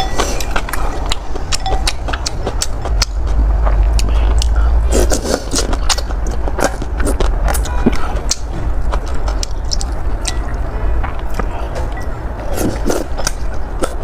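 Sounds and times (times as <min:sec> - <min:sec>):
chewing and slurping noodles: 0:00.0 - 0:14.0
steady low rumble: 0:00.0 - 0:14.0.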